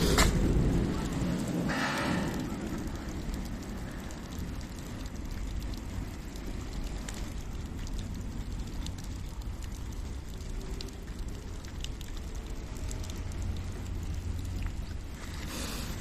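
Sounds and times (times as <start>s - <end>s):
campfire crackling: 0.0s - 16.0s
low rumble: 0.0s - 16.0s
steady rain: 0.0s - 16.0s.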